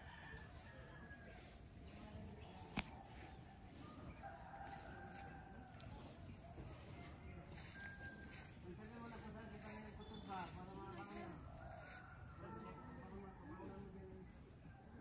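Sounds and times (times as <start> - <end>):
faint rooster crowing: 0.0 - 15.0.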